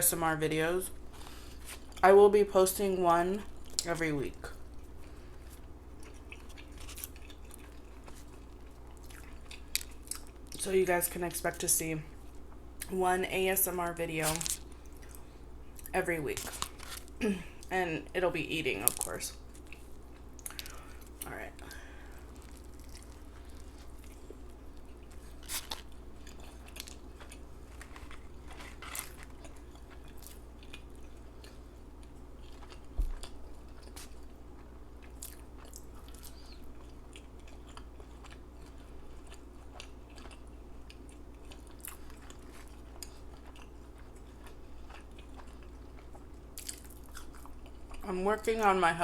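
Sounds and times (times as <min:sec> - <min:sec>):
steady low hum: 0:00.0 - 0:49.0
close chewing with crunchy bites: 0:00.9 - 0:02.1, 0:04.5 - 0:10.6, 0:14.2 - 0:17.7, 0:18.8 - 0:48.7.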